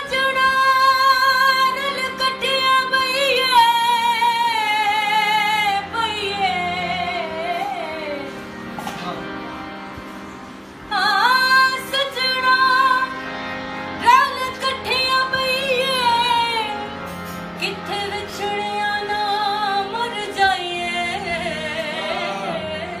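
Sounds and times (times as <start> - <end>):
harmonium chords: 0.0 - 23.0.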